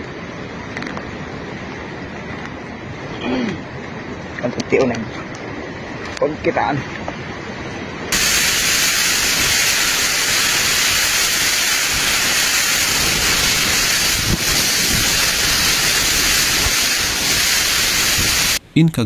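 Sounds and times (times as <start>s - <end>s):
wind and heavy rain: 0.0s - 18.6s.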